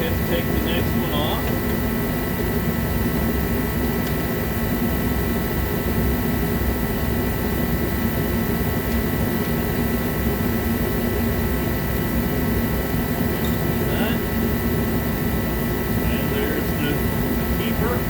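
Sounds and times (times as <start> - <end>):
steady high whine: 0.0 - 18.0.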